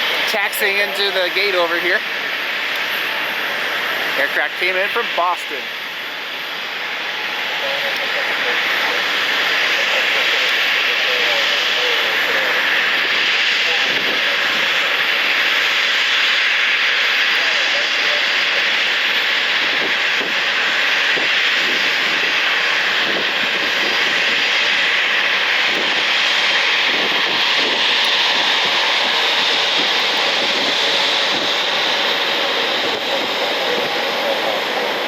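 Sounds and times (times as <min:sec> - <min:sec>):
jet engines taxiing: 0:00.0 - 0:35.0.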